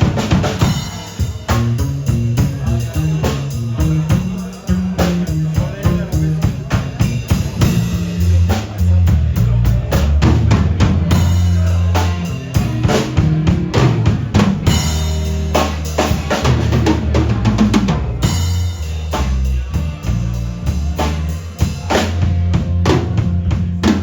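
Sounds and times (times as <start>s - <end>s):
drum kit beat: 0.0s - 24.0s
live band playing blues: 0.0s - 24.0s
sustained bass notes: 0.0s - 24.0s.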